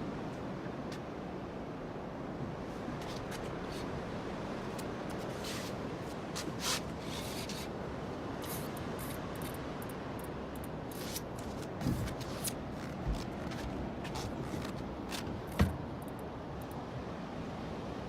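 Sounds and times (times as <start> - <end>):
sea noise: 0.0 - 18.0.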